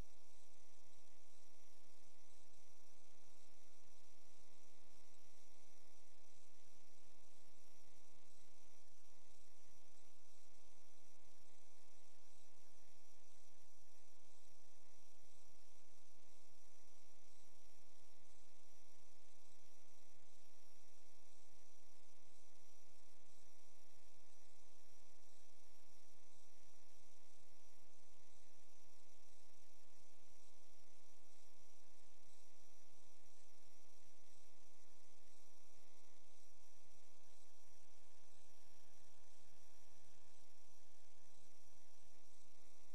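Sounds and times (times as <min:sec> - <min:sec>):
faint high whine and hiss: 0:00.0 - 0:42.9.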